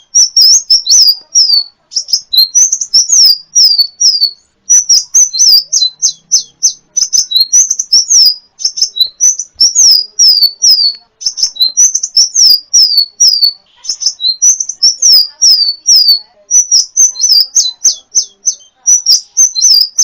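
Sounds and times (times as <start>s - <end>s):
sunbird singing sharp chirps: 0.0s - 20.0s.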